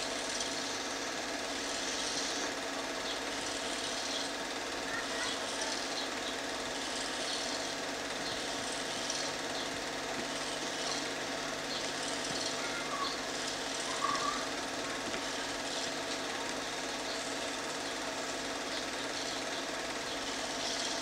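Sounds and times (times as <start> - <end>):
film projector whirring: 0.0 - 21.0.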